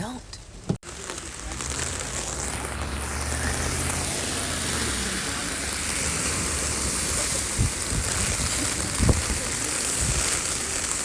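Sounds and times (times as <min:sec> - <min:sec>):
low vehicle engine hum: 0:00.4 - 0:11.0
heavy rain hissing: 0:00.8 - 0:11.0.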